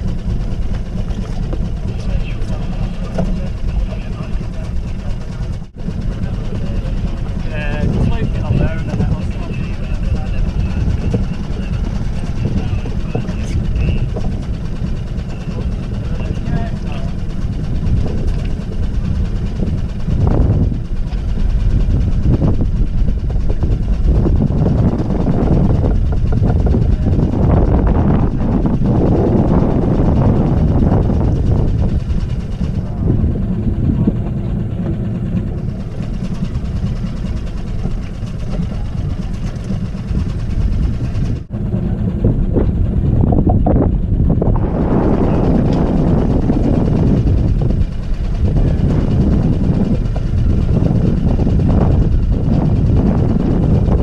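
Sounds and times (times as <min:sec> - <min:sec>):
outboard motor running: 0:00.0 - 0:54.0.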